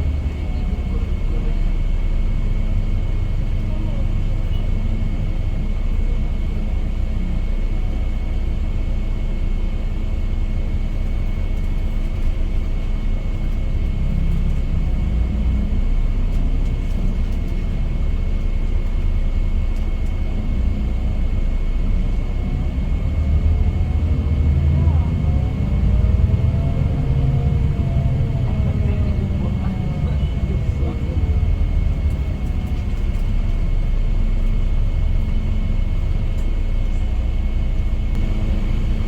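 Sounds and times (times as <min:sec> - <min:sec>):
coach engine rumble and road noise: 0:00.0 - 0:39.0.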